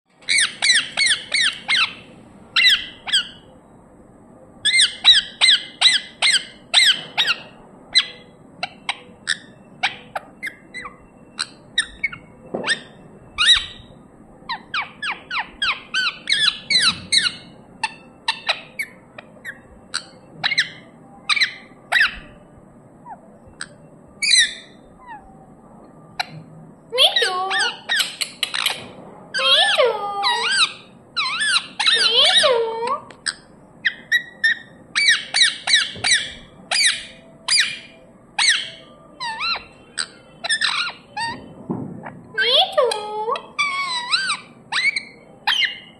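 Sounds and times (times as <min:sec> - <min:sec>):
parakeet squawking: 0:00.2 - 0:03.5, 0:04.6 - 0:22.4, 0:23.0 - 0:25.3, 0:27.0 - 0:45.9.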